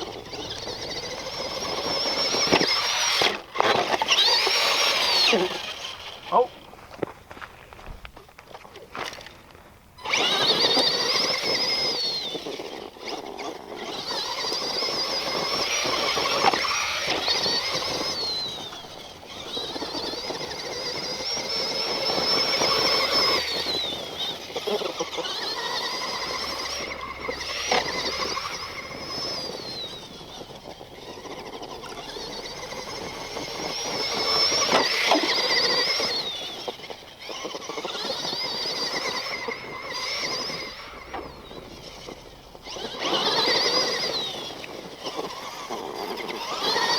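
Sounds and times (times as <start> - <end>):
toy truck electric motor whining: 0.0 - 46.9.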